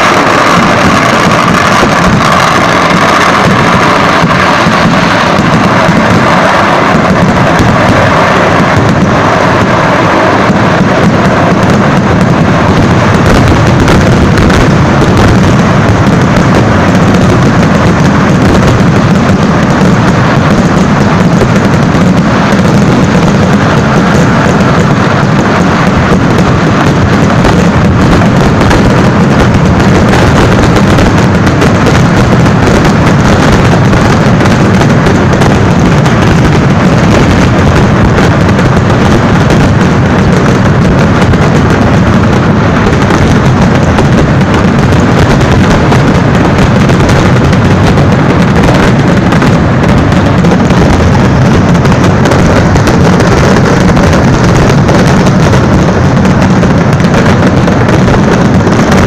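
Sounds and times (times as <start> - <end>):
fireworks explosions: 0.0 - 59.0.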